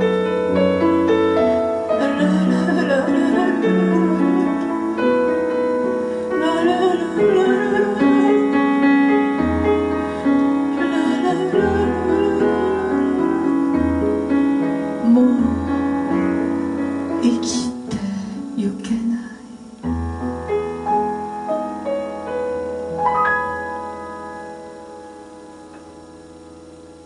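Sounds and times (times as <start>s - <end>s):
deep piano bass notes: 0.0s - 27.0s
slow piano accompaniment: 0.0s - 27.0s.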